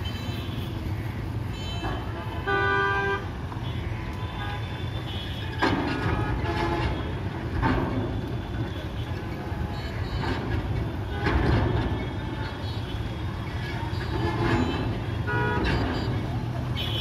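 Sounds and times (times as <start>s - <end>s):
low vehicle engine rumble: 0.0s - 17.0s.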